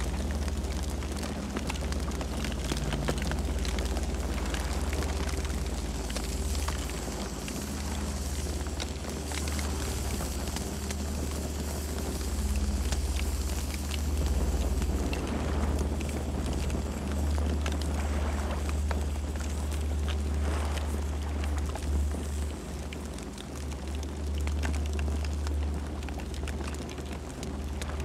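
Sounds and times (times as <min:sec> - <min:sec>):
campfire wood crackling and popping: 0:00.0 - 0:28.0
low fire rumble: 0:00.0 - 0:28.0.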